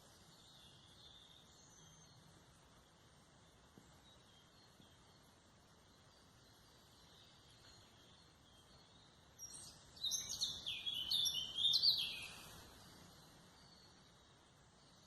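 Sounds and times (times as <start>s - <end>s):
faint distant birdsong: 0.0s - 15.0s.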